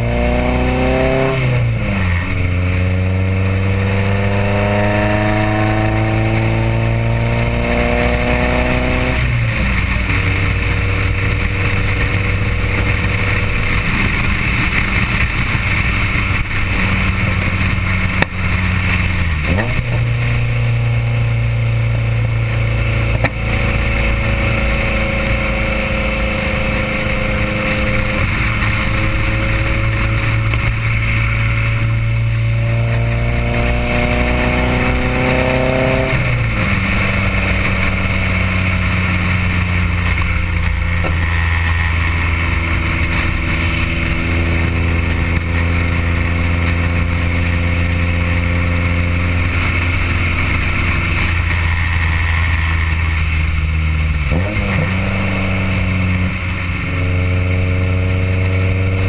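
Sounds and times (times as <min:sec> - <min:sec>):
car engine driving: 0:00.0 - 0:59.0.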